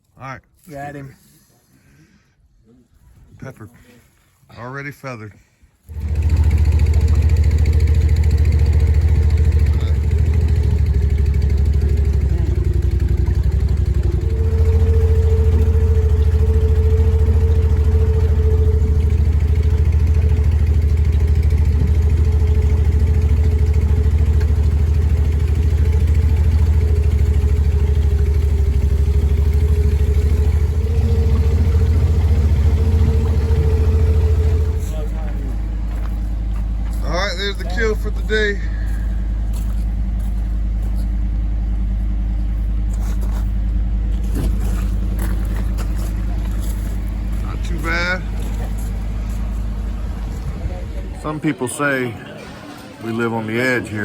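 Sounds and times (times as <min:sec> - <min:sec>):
engine low rumble: 0:00.0 - 0:54.0.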